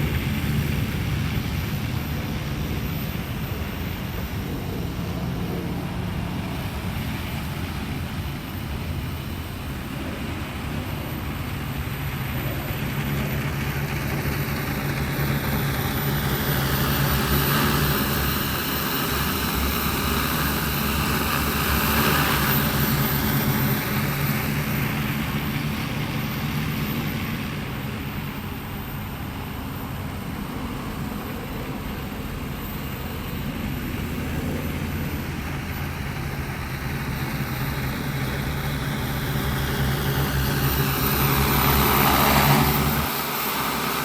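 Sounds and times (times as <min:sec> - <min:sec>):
drone propellers whirring: 0:00.0 - 0:44.0.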